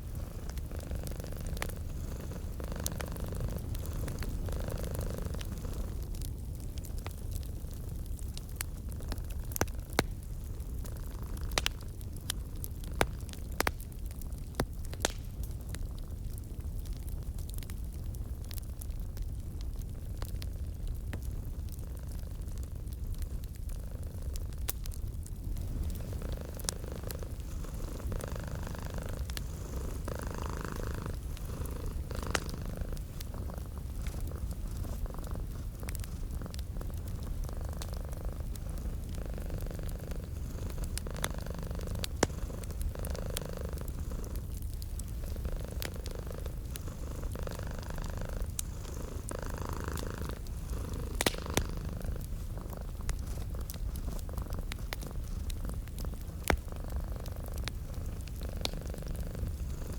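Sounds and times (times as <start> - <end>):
cat purring: 0.0 - 18.5, 20.9 - 59.9
fire popping: 0.0 - 59.9
wood fire crackling: 0.0 - 59.9.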